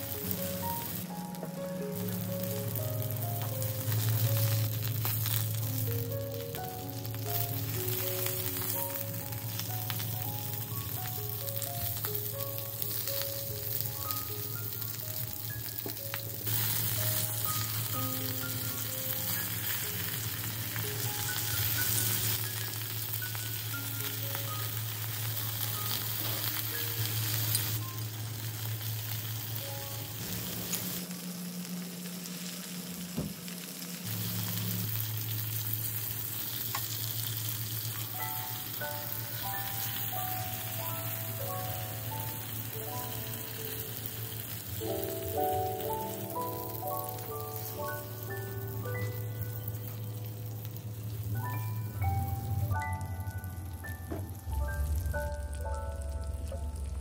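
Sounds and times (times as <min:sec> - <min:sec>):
cabbage sizzling in a skillet: 0:00.0 - 0:57.0.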